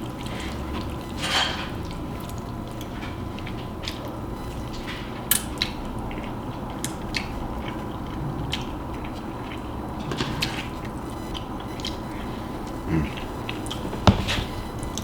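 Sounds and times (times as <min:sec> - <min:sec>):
chewing and mouth sounds: 0:00.0 - 0:15.0
low background hum: 0:00.0 - 0:15.0.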